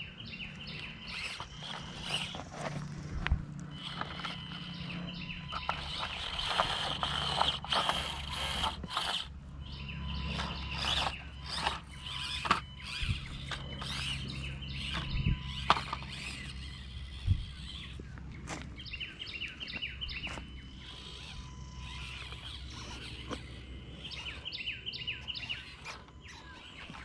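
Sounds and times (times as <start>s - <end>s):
small electric motor whine: 0.0s - 27.0s
tyres clicking and scraping on stone: 0.6s - 9.3s, 10.2s - 18.8s, 19.4s - 24.4s.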